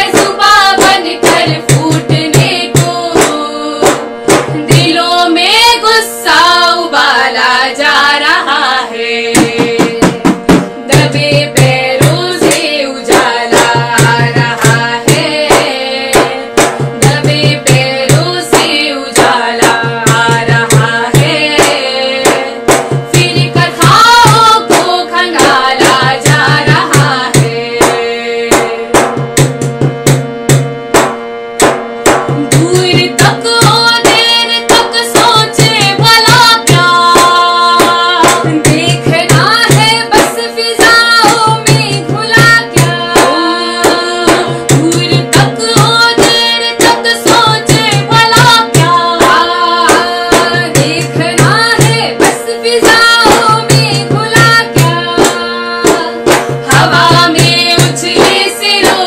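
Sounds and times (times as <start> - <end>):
frame drum beating: 0.0 - 5.6, 9.2 - 59.0
women singing: 0.0 - 29.4, 32.3 - 59.0.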